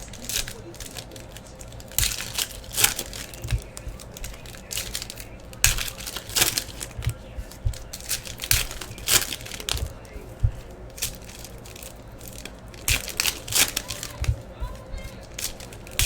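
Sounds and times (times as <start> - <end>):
wrappers crinkling and tearing: 0.0 - 16.0.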